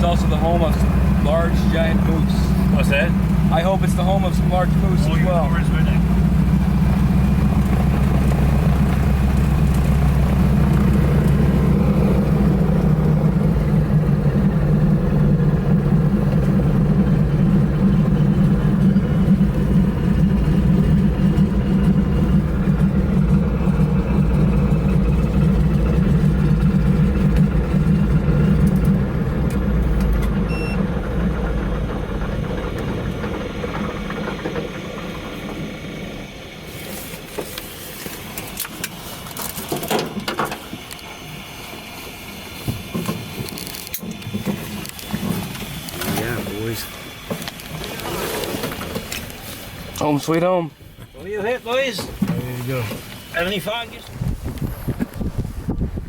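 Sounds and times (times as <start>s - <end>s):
float plane engine: 0.0s - 56.0s.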